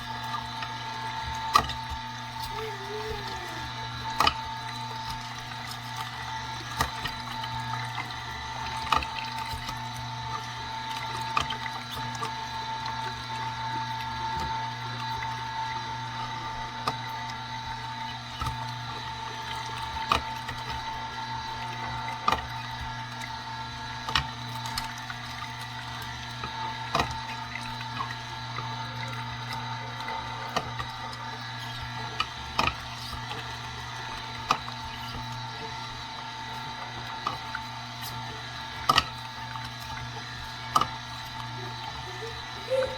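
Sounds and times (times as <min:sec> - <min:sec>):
juicer crushing fruit: 0:00.0 - 0:42.9.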